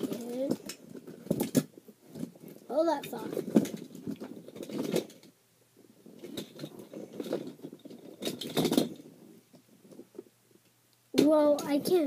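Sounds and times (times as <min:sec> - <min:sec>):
toys rustling and clattering: 0:00.0 - 0:10.3, 0:11.2 - 0:12.0.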